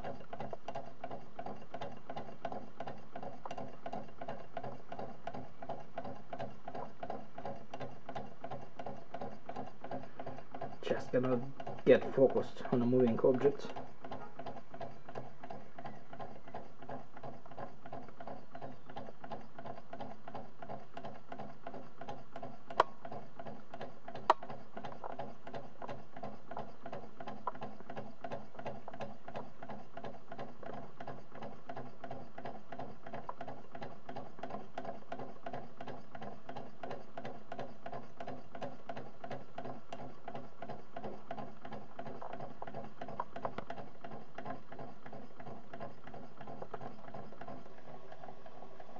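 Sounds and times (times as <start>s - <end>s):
model engine clattering: 0.0s - 48.9s.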